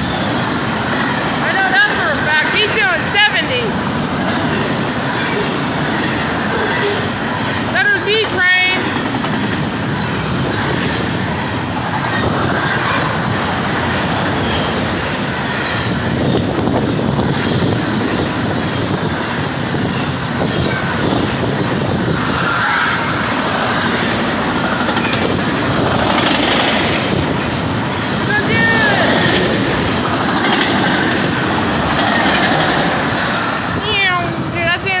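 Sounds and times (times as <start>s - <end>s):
freight train wheels on rails: 0.0s - 35.0s.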